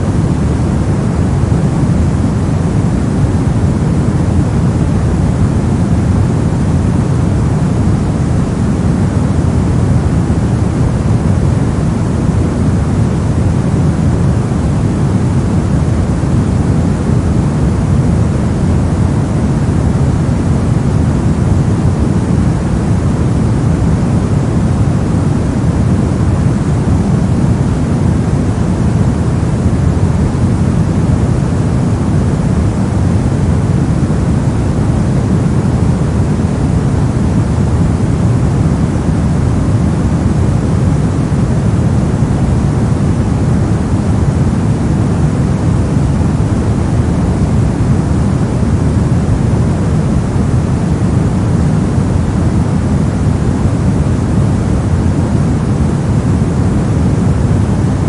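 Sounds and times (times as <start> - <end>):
deep white noise: 0.0 - 58.0.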